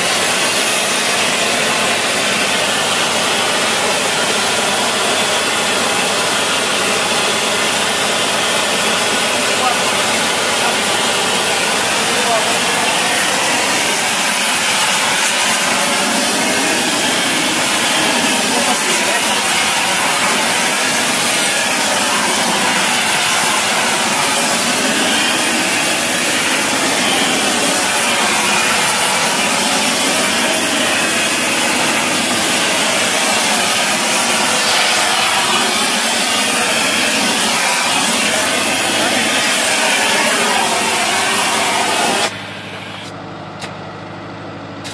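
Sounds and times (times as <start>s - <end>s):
welding arc hissing: 0.0s - 43.1s.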